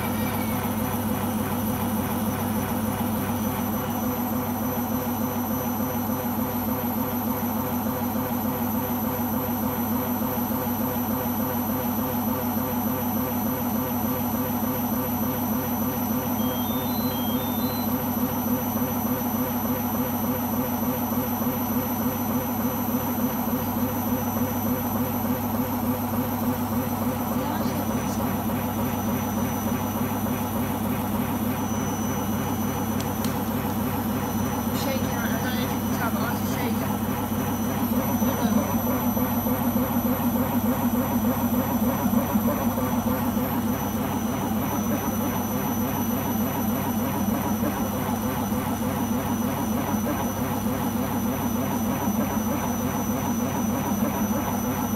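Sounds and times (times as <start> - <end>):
washing machine drum spinning: 0.0 - 54.9.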